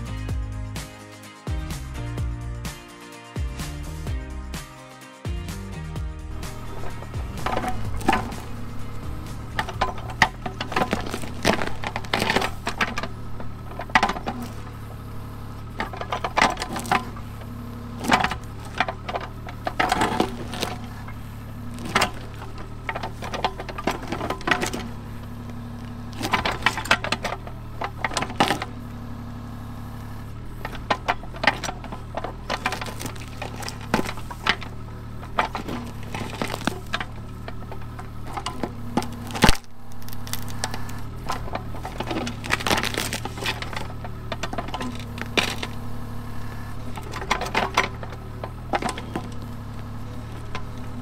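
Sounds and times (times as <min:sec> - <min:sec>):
excavator engine running: 0:00.0 - 0:51.0
wood cracking and snapping: 0:06.4 - 0:51.0.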